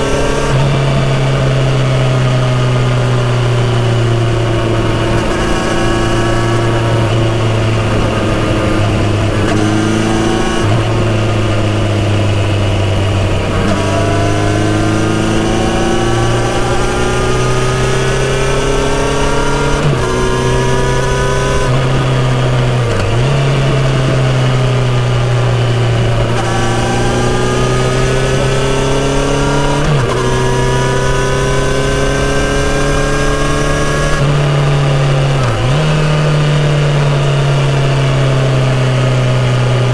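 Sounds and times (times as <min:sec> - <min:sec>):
motorcycle engine revving and shifting: 0:00.0 - 0:39.9.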